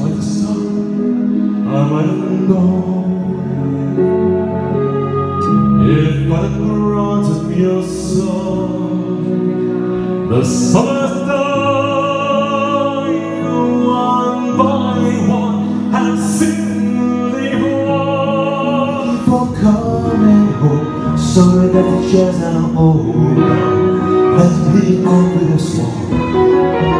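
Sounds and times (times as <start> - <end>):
man singing into microphone: 0.0 - 4.2, 5.3 - 26.9
instrumental backing music: 0.0 - 26.9.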